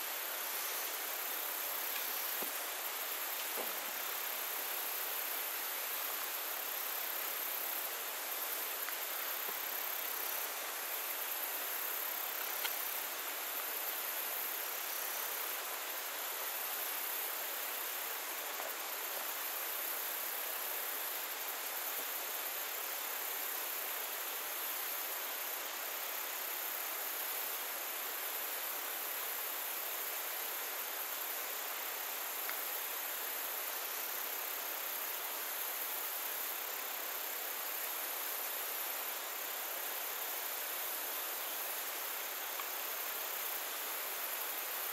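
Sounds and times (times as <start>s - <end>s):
even hiss: 0.0s - 44.9s
high insect buzz: 0.0s - 44.9s.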